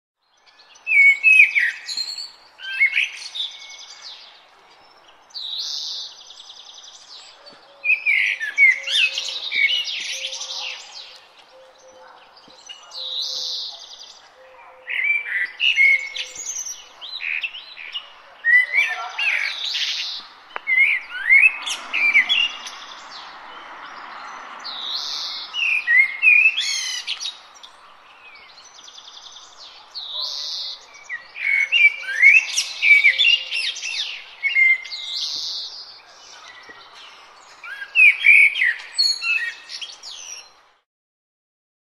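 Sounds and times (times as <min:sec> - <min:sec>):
songbirds singing: 0:00.2 - 0:40.8.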